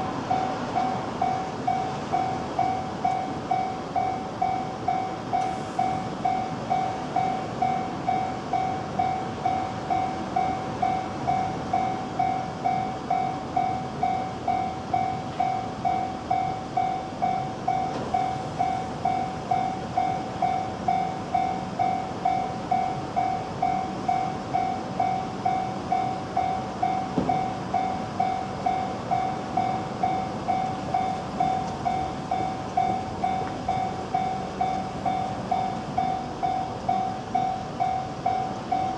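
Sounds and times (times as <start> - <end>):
level-crossing warning bell: 0.0 - 38.9
rushing rail noise: 0.0 - 38.9.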